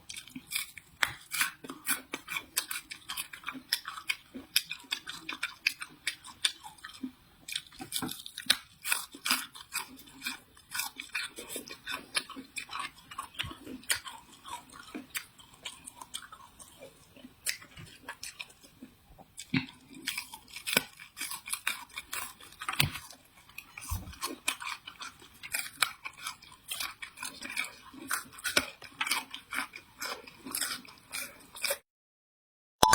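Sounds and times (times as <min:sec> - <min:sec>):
chewing crunchy vegetables: 0:00.0 - 0:31.8.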